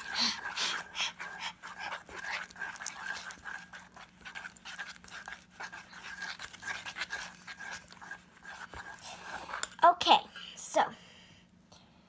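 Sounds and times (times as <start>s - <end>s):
slime squelching and crackling: 0.0s - 9.8s.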